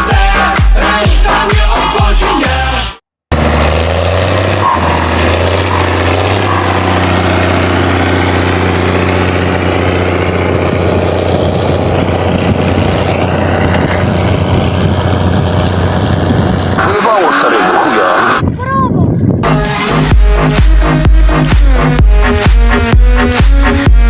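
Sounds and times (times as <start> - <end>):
diesel tractor engine running: 3.3 - 18.2, 19.2 - 24.0.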